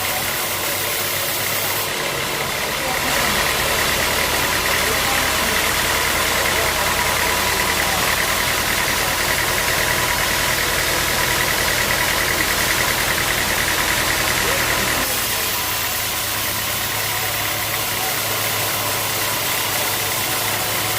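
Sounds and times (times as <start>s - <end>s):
sawmill machinery engine noise: 0.0s - 20.9s.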